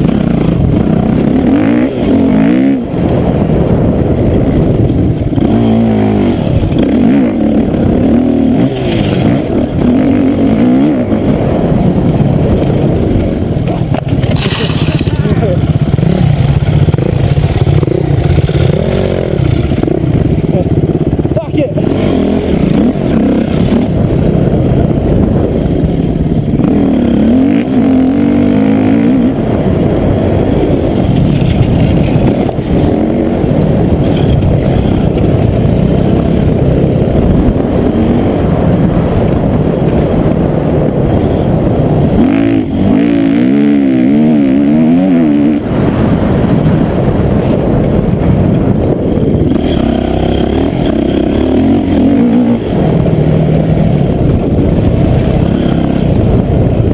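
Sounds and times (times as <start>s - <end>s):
dirt bike engine revving: 0.0s - 56.9s
loud rumbling noise: 0.0s - 56.9s.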